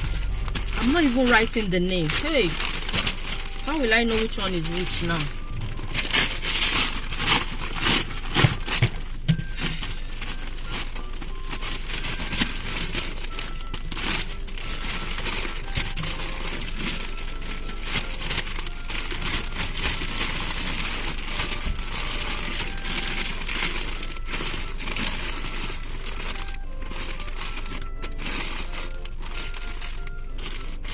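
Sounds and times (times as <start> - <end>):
wrapping paper crinkling: 0.0 - 30.9.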